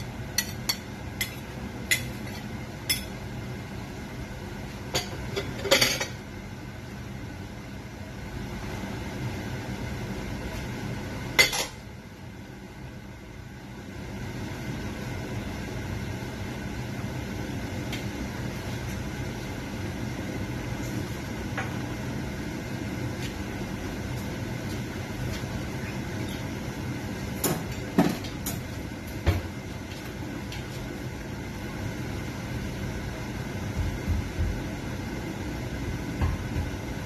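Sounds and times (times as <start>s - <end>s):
pot boiling and bubbling: 0.0s - 37.0s.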